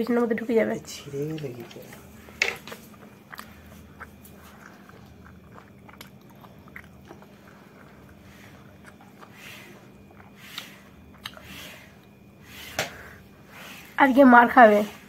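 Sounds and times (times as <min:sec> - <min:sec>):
low steady hum: 0:00.0 - 0:15.0
person chewing food: 0:01.0 - 0:14.0.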